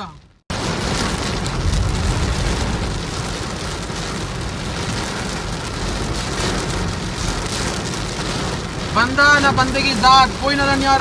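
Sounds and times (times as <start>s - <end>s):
heavy rain on car roof: 0.0s - 11.0s
low rumble: 0.2s - 9.7s.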